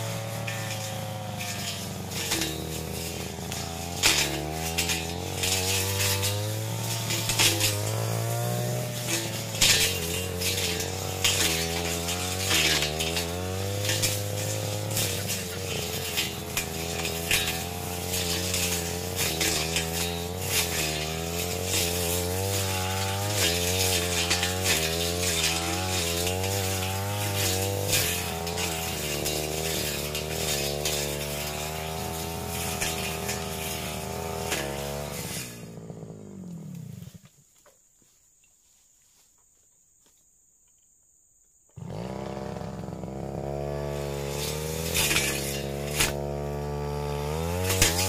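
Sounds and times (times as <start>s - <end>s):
stems snapping and rattling: 0.0s - 35.6s, 43.8s - 48.0s
brush cutter engine running: 0.0s - 37.3s, 41.8s - 48.0s.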